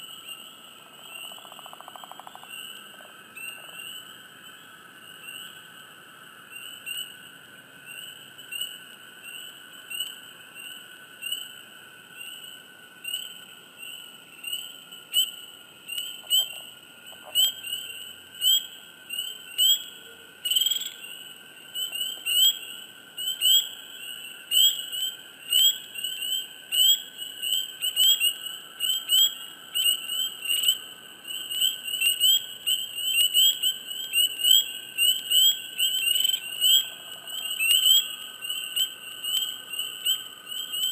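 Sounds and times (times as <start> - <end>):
spring peepers peeping: 0.0 - 5.8, 6.4 - 40.9.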